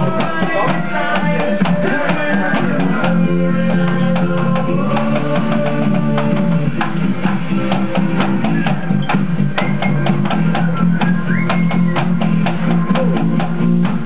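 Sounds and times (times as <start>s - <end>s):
fast drum beat: 0.0s - 14.0s.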